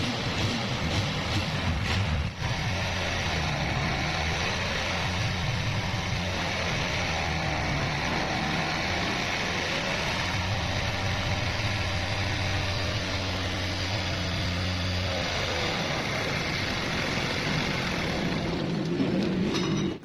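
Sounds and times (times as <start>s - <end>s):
motorcycle engine idling: 0.0s - 18.8s.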